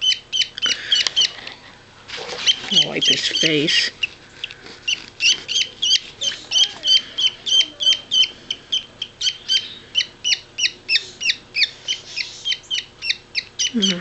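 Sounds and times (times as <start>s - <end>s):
parakeet chick cheeping: 0.0s - 1.4s, 2.4s - 4.1s, 4.8s - 14.0s.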